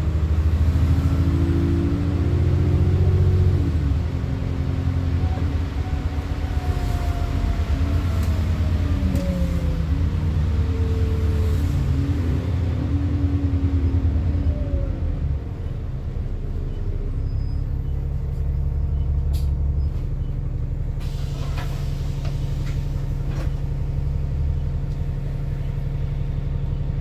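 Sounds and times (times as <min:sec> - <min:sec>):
bus diesel engine whining: 0:00.0 - 0:27.0.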